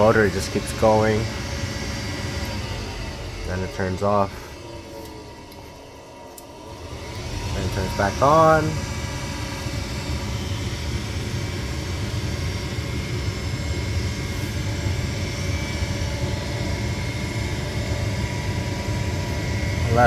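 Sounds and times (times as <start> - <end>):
furnace inducer motor humming: 0.0 - 20.0.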